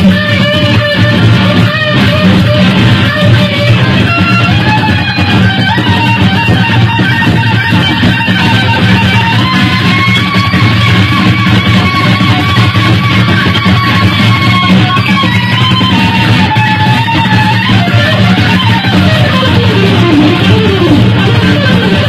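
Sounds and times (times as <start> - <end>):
electric guitar solo: 0.0 - 22.0
low accompaniment: 0.0 - 22.0.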